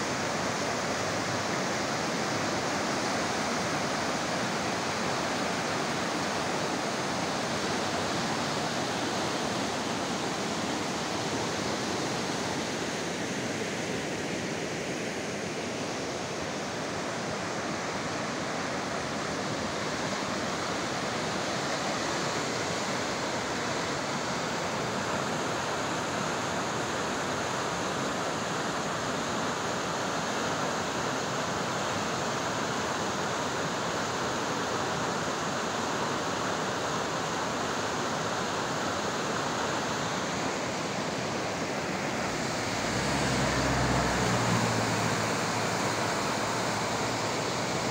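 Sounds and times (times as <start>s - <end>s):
river rushing over boulders: 0.0s - 47.9s.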